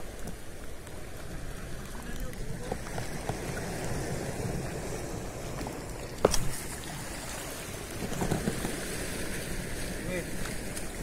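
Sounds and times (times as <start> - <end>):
waves lapping against rocks: 0.0 - 11.0.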